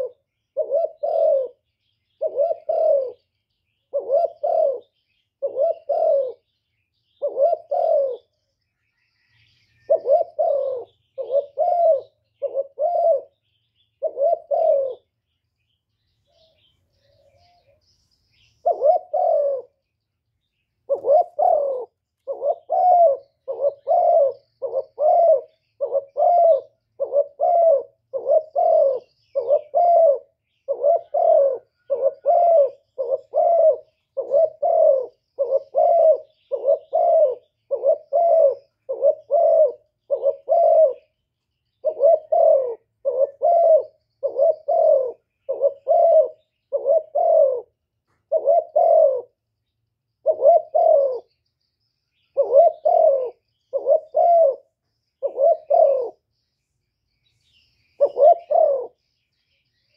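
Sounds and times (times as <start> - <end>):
dove cooing: 0.0 - 15.2, 16.2 - 19.9, 20.8 - 49.4, 50.2 - 51.5, 52.2 - 56.4, 57.8 - 59.1.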